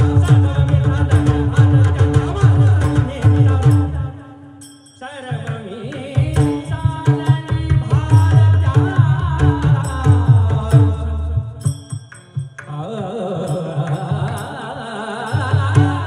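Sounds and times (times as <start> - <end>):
rapid hand drumming: 0.0 - 4.2, 5.3 - 14.7, 15.3 - 16.0
devotional singing: 0.0 - 16.0.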